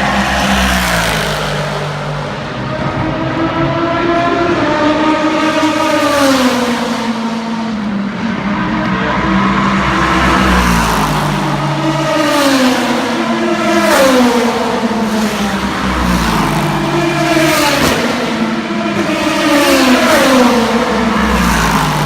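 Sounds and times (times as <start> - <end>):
racing cars passing at speed: 0.0 - 22.0.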